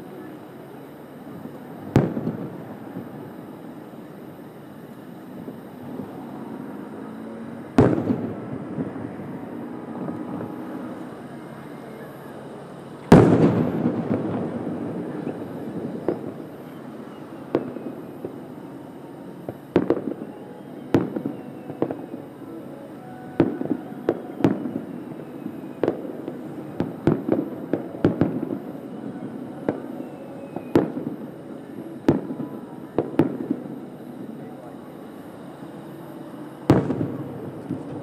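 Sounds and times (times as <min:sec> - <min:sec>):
sharp firework reports: 0:00.0 - 0:38.0.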